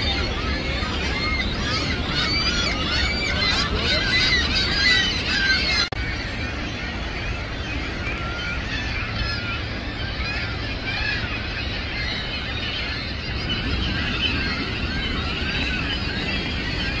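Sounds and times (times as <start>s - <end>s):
gulls squawking: 0.0s - 17.0s.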